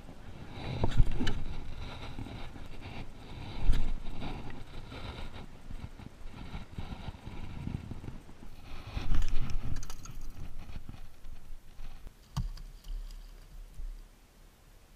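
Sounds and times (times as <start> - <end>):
wind rumbling on microphone: 0.0 - 12.1.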